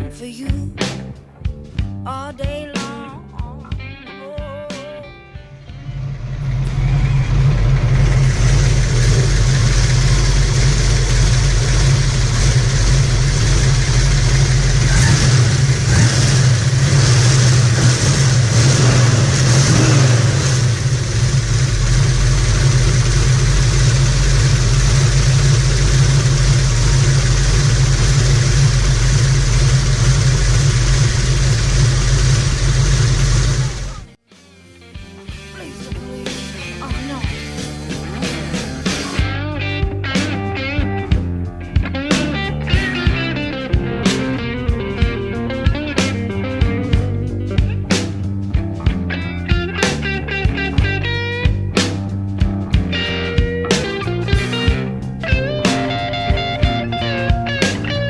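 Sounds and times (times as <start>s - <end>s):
deep engine exhaust rumble: 5.4s - 34.2s, 37.0s - 58.0s.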